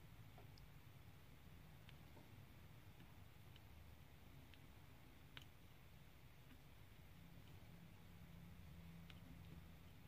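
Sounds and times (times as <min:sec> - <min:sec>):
faint ticks of drill pen: 0:01.8 - 0:10.0.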